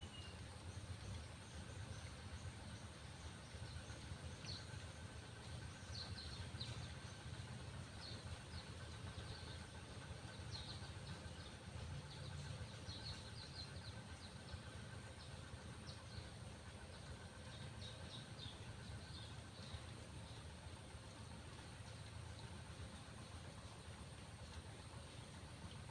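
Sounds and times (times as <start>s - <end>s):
low steady rumble: 0.0s - 25.9s.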